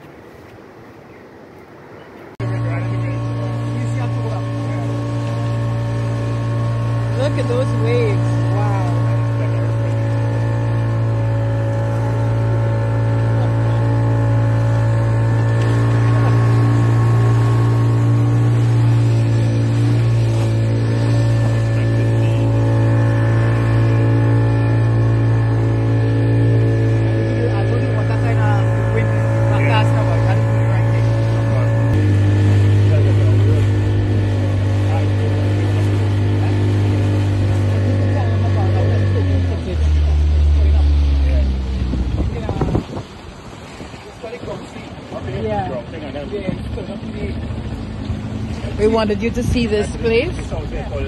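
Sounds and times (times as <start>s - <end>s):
outboard motor droning: 0.0s - 51.0s
water rushing from wake: 0.0s - 51.0s.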